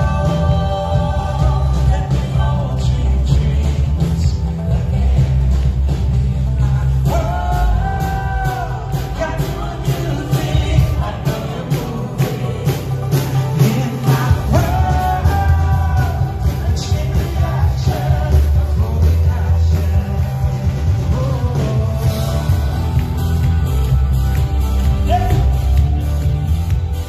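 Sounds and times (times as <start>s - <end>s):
person singing: 0.0s - 23.9s, 24.8s - 26.4s
drum beat: 0.0s - 27.0s
rock band playing: 0.0s - 27.0s.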